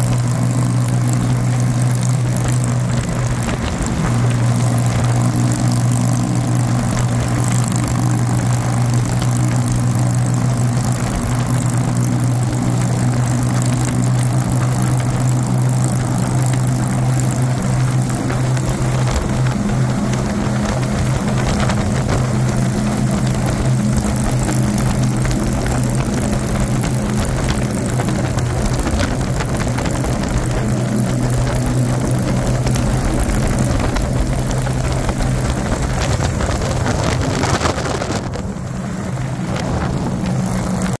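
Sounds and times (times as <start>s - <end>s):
road noise: 0.0s - 41.0s
vehicle engine droning: 0.0s - 41.0s
wind noise: 0.0s - 41.0s.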